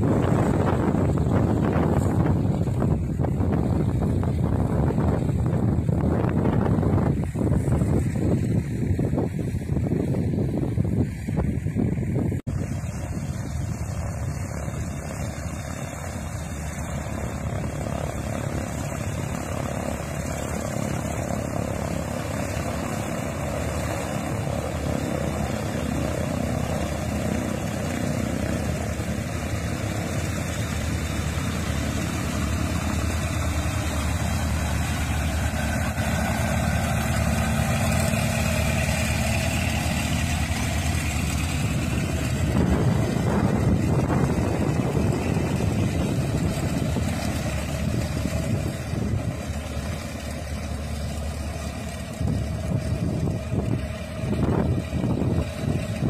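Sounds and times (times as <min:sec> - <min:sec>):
propeller plane taxiing: 0:00.0 - 0:56.0.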